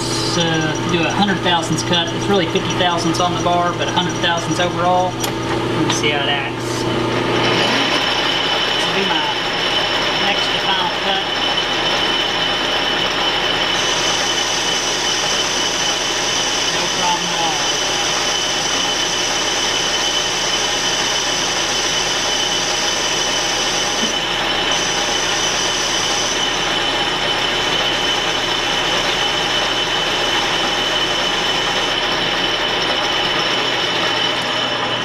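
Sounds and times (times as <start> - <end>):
high whine: 0.0 - 35.0
metal lathe running: 0.0 - 35.0.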